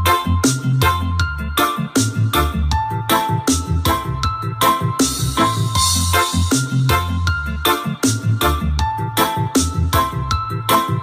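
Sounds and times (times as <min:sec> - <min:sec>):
reggae music on sound system: 0:00.0 - 0:11.0.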